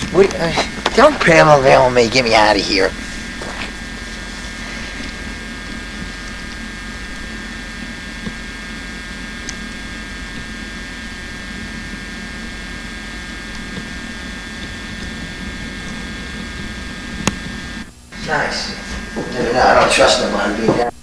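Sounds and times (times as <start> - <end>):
droning mechanical hum: 0.0 - 21.0
faint high whines: 0.0 - 21.0.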